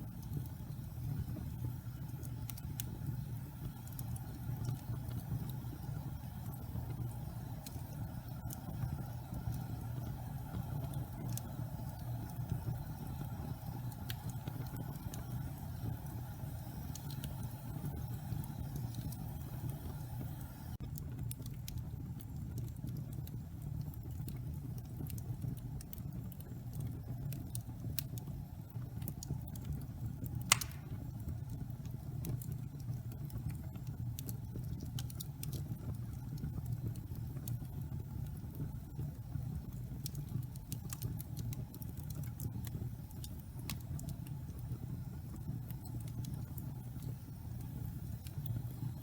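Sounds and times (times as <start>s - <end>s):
fire crackling and popping: 0.0s - 49.0s
low rumble of burning logs: 0.0s - 49.0s.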